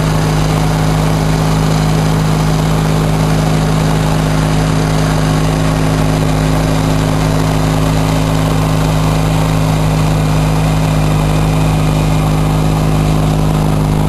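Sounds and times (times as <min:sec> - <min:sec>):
garden tractor engine running: 0:00.0 - 0:14.0
snowblower throwing snow: 0:00.0 - 0:14.0.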